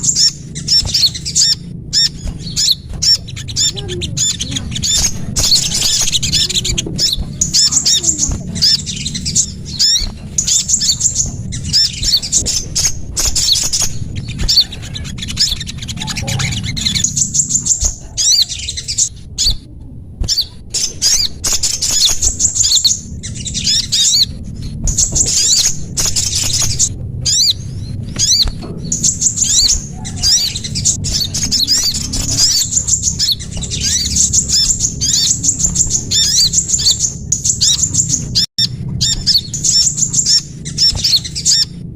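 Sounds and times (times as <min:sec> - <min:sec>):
songbirds chirping shrilly: 0:00.0 - 0:41.9
steady low hum: 0:00.0 - 0:41.9.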